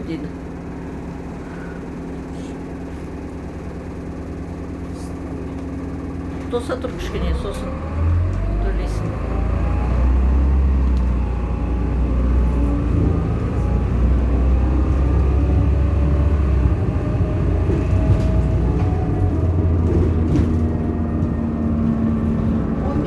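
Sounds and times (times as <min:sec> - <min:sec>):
large vehicle engine drone: 0:00.0 - 0:23.0.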